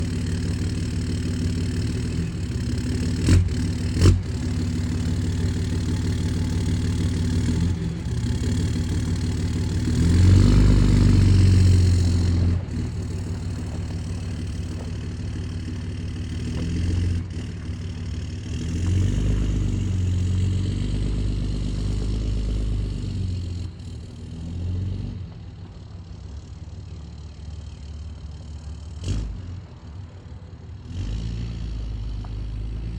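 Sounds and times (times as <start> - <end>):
diesel engine idling and revving: 0.0 - 32.9.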